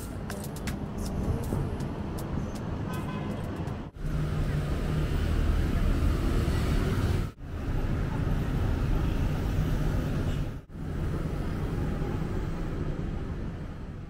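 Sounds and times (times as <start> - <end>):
cars and scooters driving by: 0.0 - 14.0.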